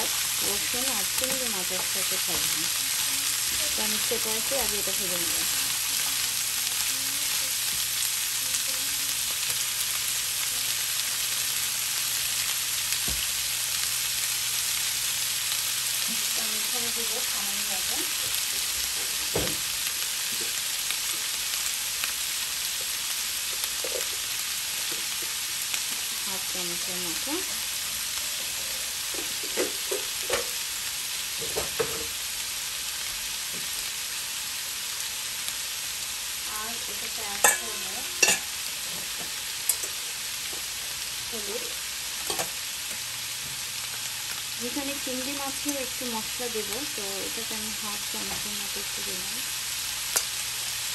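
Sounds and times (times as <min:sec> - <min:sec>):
vegetables sizzling in a pan: 0:00.0 - 0:50.9.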